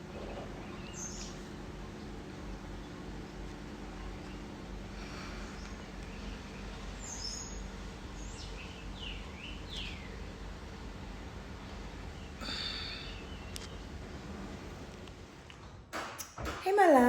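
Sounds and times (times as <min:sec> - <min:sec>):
birds chirping: 0:00.0 - 0:14.1
low background hum: 0:00.0 - 0:17.0.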